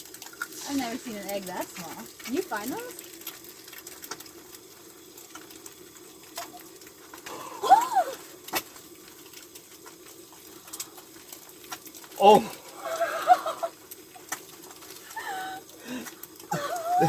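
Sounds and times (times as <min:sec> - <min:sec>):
food frying in a pan: 0:00.0 - 0:17.0.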